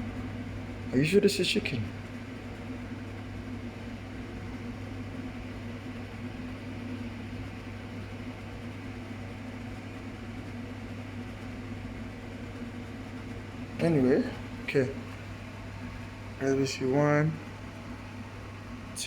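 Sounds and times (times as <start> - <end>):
kitchen appliance humming: 0.0 - 19.0.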